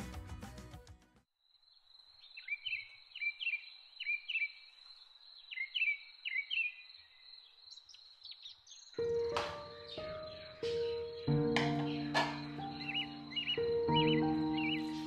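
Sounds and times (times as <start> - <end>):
small bird chirping: 1.5 - 15.0.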